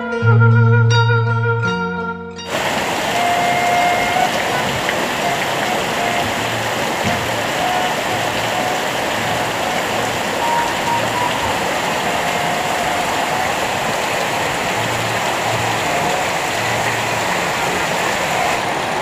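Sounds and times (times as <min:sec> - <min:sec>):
heavy rain on tile roof: 0:02.5 - 0:19.0
water streaming off eaves: 0:02.5 - 0:19.0.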